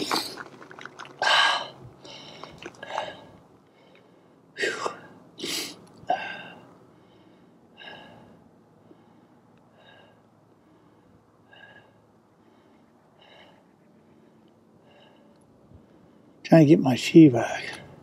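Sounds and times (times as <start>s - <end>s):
man breathing hard: 1.2s - 16.4s.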